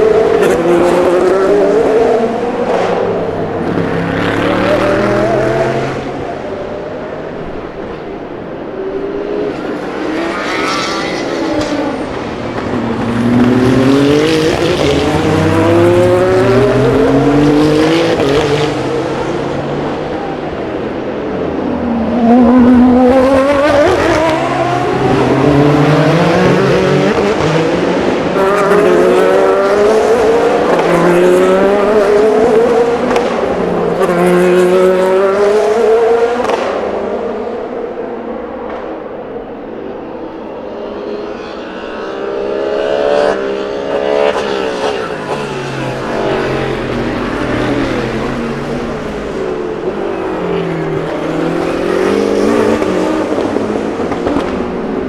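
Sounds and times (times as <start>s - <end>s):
race cars accelerating: 0.0s - 55.0s.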